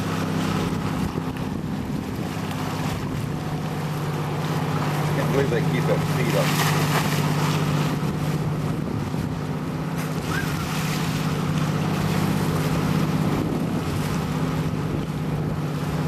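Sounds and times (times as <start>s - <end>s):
motorboat engine running: 0.0s - 16.0s
rushing wind: 0.0s - 16.0s
water noise: 0.0s - 16.0s.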